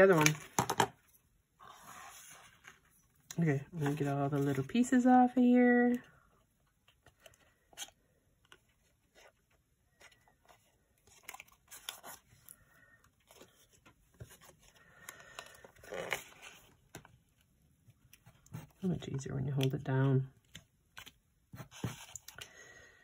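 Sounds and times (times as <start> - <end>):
cardstock rustling and crinkling: 0.0 - 6.1, 6.7 - 22.5.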